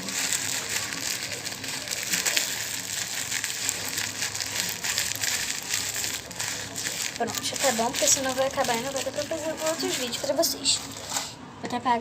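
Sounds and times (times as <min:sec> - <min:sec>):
hands squishing sticky slime: 0:00.0 - 0:11.2.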